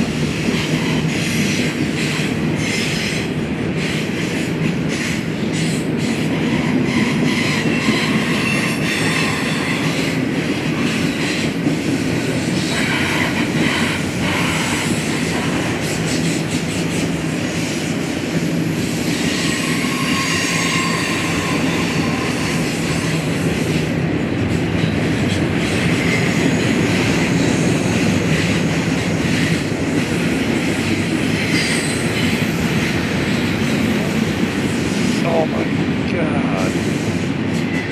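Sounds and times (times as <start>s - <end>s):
train cars rumbling and rattling: 0.0s - 37.9s.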